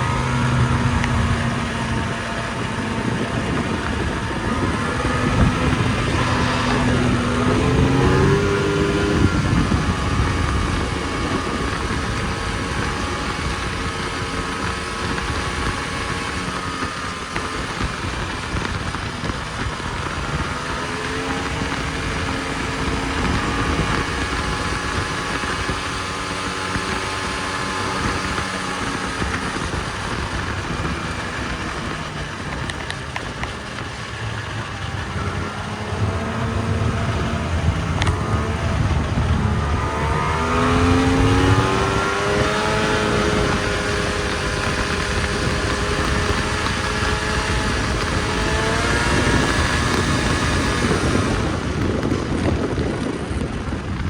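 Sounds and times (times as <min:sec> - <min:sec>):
constant rushing noise: 0:00.0 - 0:54.0
snowmobile engine running: 0:00.0 - 0:54.0.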